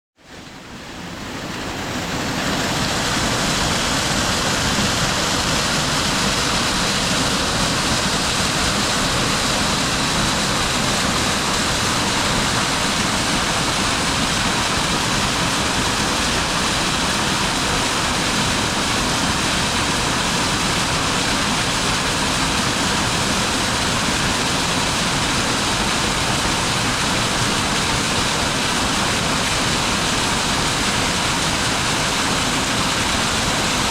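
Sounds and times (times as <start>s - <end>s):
waterfall rushing and splashing: 0.2s - 33.9s.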